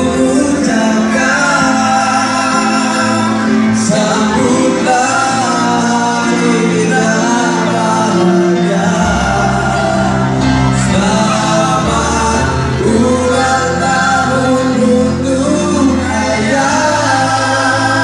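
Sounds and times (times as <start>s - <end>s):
choir singing with accompaniment: 0.0s - 18.0s.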